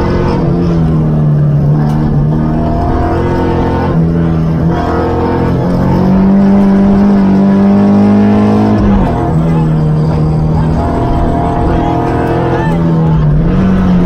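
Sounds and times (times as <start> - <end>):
car engine under hard load: 0.0 - 14.0.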